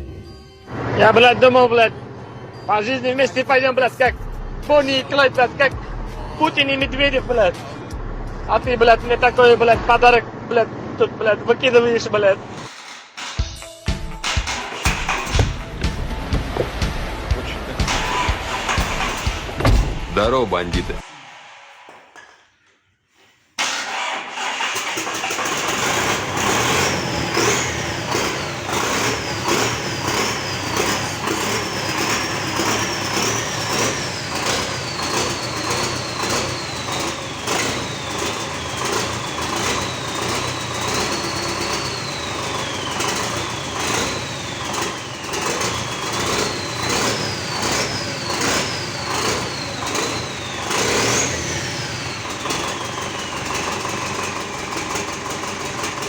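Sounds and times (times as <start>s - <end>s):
high turbo whine: 0.0s - 13.4s, 14.2s - 22.3s, 23.8s - 56.0s
diesel engine clattering and revving: 0.7s - 13.4s, 14.1s - 21.1s, 23.6s - 56.0s.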